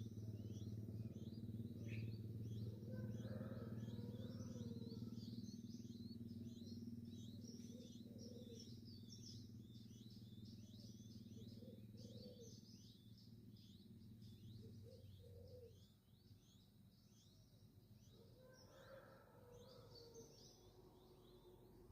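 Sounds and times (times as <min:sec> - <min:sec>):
baby birds chirping: 0:00.0 - 0:20.7.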